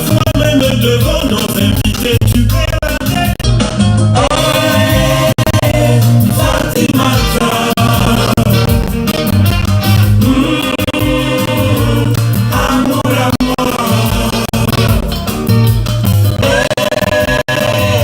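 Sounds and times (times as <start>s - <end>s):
upbeat song with singing: 0.0s - 18.0s.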